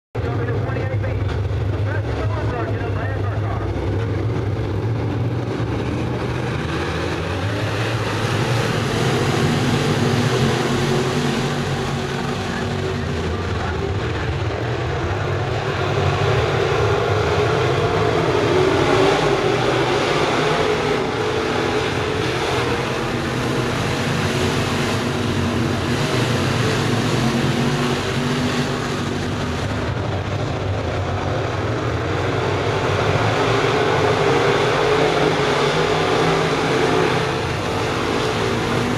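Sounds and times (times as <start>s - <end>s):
race car engines roaring: 0.2s - 38.9s.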